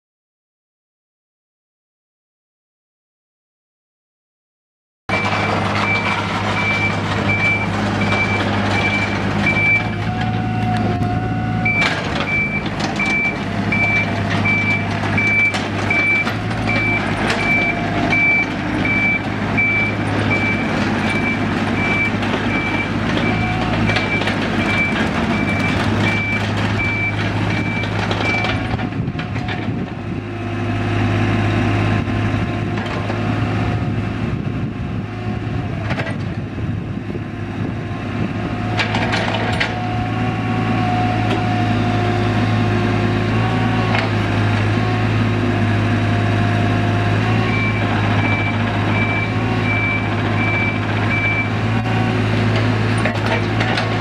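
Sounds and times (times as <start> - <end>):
diesel engine running: 5.1 - 54.0.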